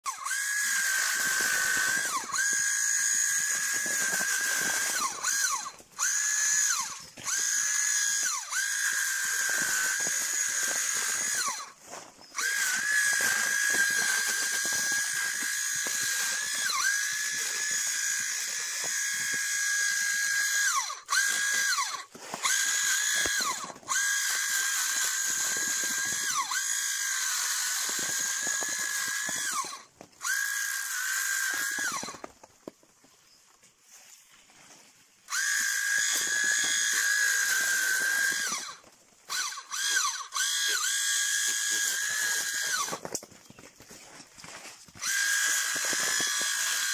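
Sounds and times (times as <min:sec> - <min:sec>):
small motor whining: 0:00.1 - 0:32.5, 0:35.2 - 0:46.9.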